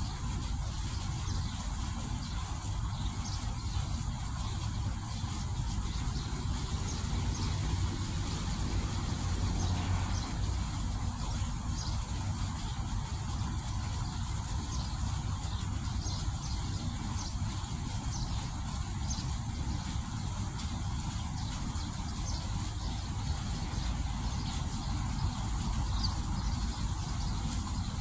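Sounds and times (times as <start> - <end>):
fountain water splashing: 0.0 - 28.0.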